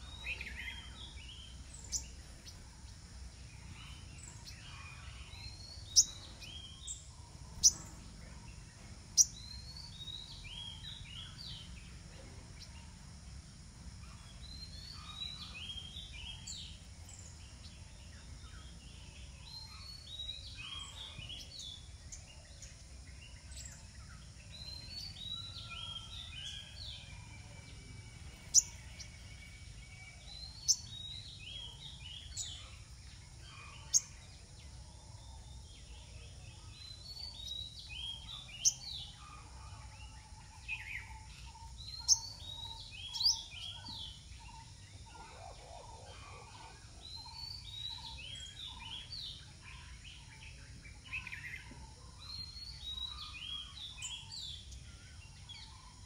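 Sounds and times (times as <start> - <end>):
birds chirping and twittering: 0.0 - 56.0.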